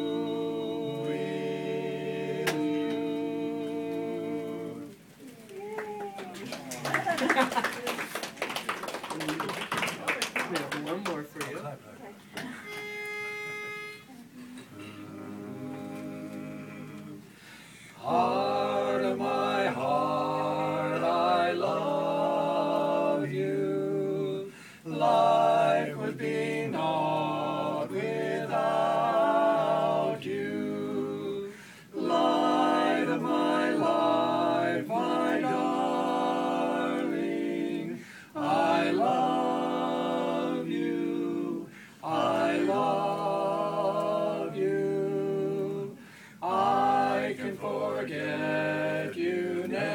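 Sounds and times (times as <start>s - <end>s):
barbershop quartet singing: 0.0s - 5.1s, 14.6s - 49.9s.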